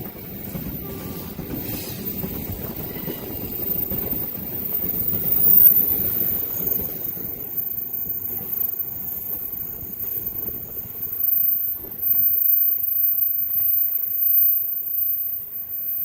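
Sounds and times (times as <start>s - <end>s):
train passing rumbling roar: 0.0s - 14.3s.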